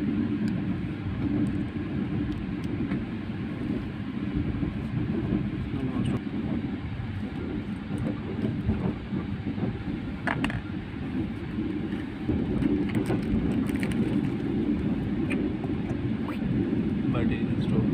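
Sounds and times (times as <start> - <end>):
train running rumble: 0.0 - 17.9.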